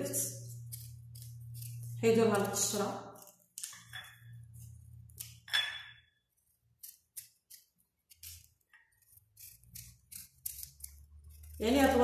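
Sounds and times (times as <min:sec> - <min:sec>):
turnip peeling scrapes: 0:00.3 - 0:05.4, 0:06.6 - 0:12.0.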